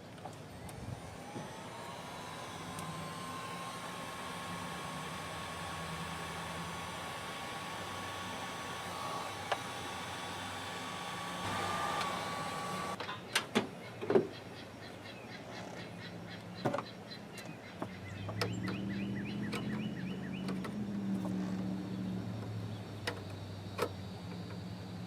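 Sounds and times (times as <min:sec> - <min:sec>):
mechanical hum with high tone: 0:00.0 - 0:25.0.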